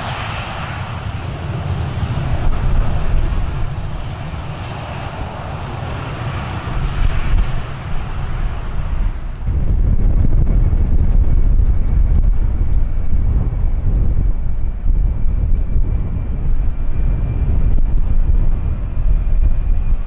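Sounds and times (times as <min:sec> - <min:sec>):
jet engines at high thrust: 0:00.0 - 0:20.0.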